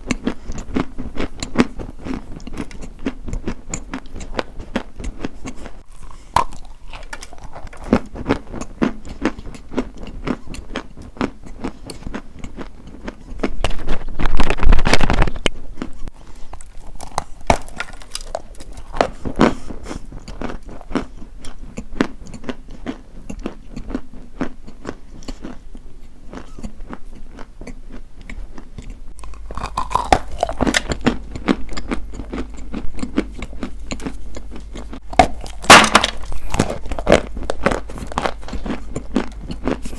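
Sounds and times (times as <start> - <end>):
crunching of brittle material: 0.0 - 25.7, 28.6 - 39.9.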